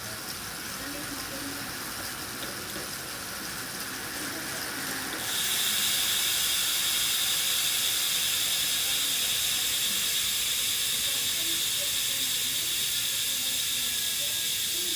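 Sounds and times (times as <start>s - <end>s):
bicycle hub freewheel buzzing: 0.0s - 14.9s.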